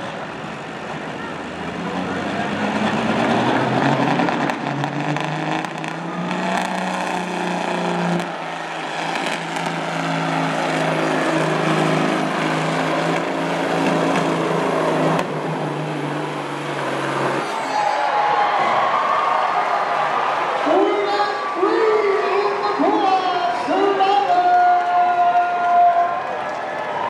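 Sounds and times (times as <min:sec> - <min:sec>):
diesel truck engine at full throttle: 0:00.0 - 0:27.0.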